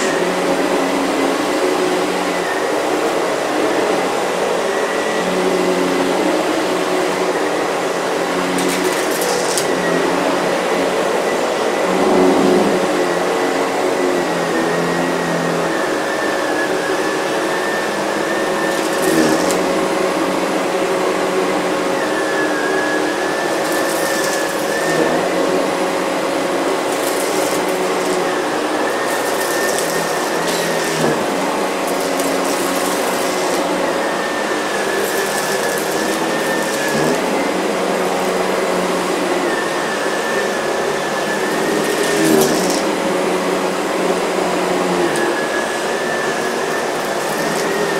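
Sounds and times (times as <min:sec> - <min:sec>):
vacuum brushing hiss on rug: 0:00.0 - 0:47.9
vacuum cleaner running: 0:00.0 - 0:47.9.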